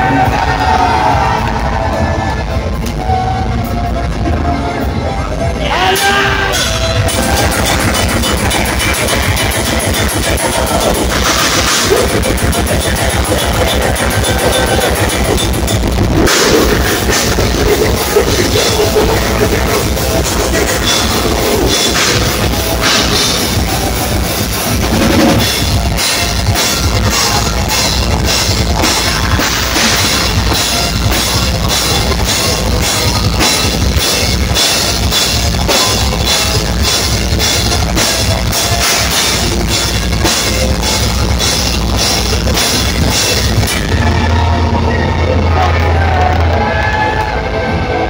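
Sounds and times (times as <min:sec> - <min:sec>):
heavily distorted guitars: 0:00.0 - 0:48.0
drum kit hammering fast: 0:05.8 - 0:44.3.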